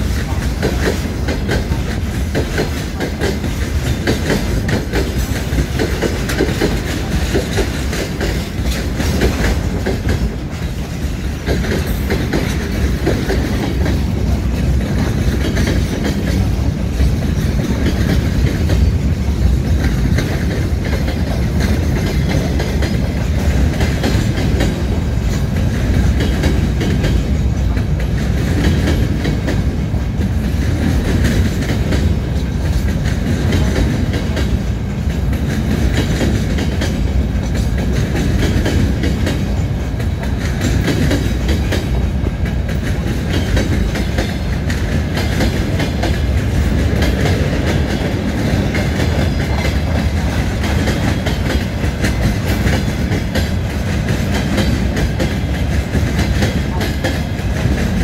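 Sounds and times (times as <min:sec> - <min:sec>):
train wheels rumbling on rail: 0:00.0 - 0:58.0
wheels clicking over rail joints: 0:00.0 - 0:58.0.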